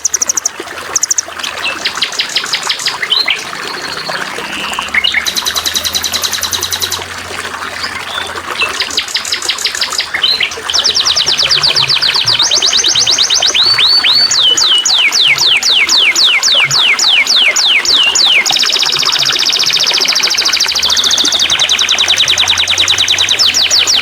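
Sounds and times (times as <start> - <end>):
songbirds singing: 0.0 - 24.0
trickle of running water: 0.0 - 24.0.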